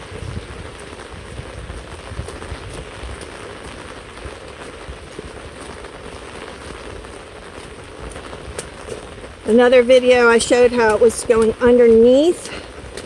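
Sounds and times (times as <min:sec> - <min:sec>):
water splashing down cascade: 0:00.0 - 0:13.0.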